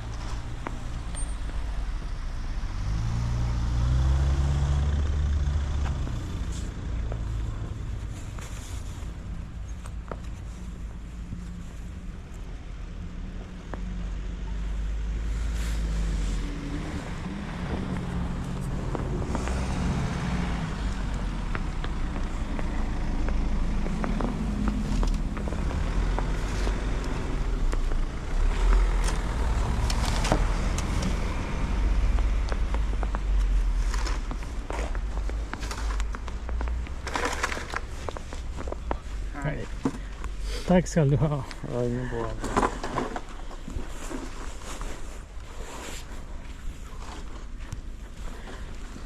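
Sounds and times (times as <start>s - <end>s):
car engine and tyres on snow: 0.0s - 49.0s.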